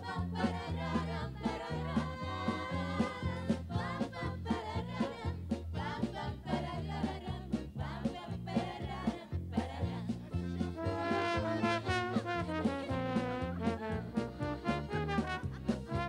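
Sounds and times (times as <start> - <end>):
steady drum beat: 0.0 - 16.0
stepping bass line: 0.0 - 16.0
live band playing upbeat music: 0.4 - 16.0.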